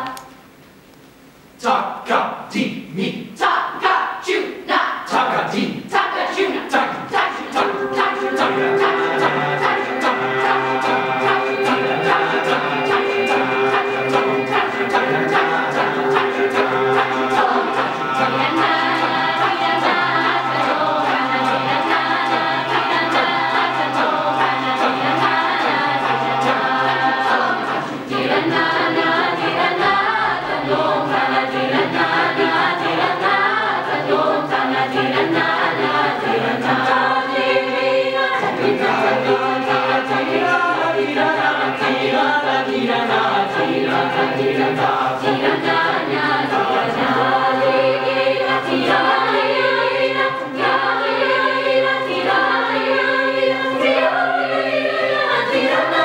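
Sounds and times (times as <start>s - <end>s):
mixed choir singing: 3.4s - 56.0s
steady held drone: 6.6s - 56.0s.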